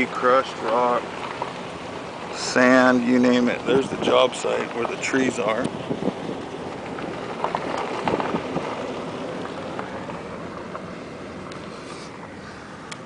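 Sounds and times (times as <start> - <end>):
vehicle road and wind noise: 0.0 - 13.0.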